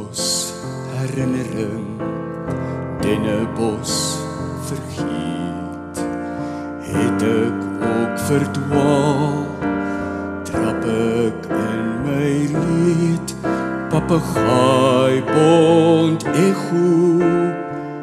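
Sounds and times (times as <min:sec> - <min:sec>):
digital piano chords and melody: 0:00.0 - 0:18.0.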